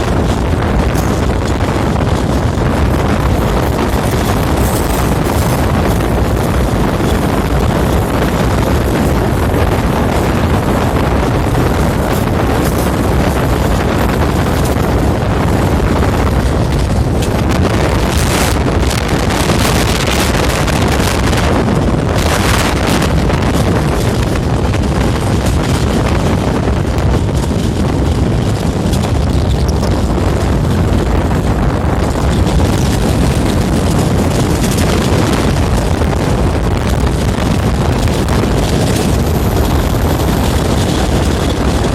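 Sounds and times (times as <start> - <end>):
moving train running noise: 0.0 - 41.9
wind buffeting microphone: 0.0 - 41.9.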